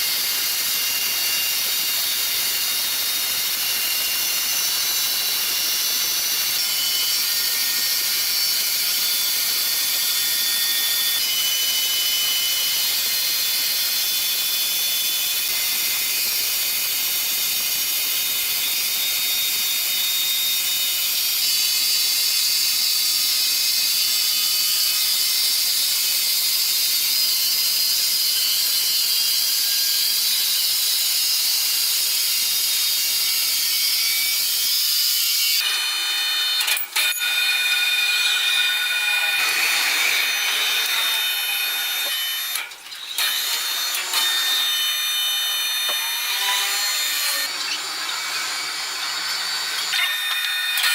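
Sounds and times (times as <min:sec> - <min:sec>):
sawmill machinery whining: 0:00.0 - 0:50.9.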